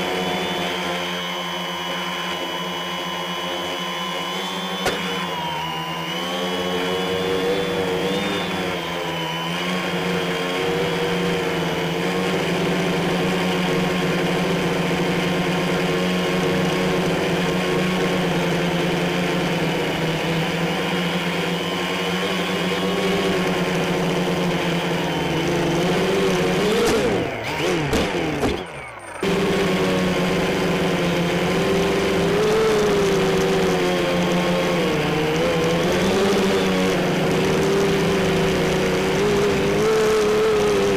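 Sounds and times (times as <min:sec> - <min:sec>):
quadcopter propellers humming: 0:00.0 - 0:40.9.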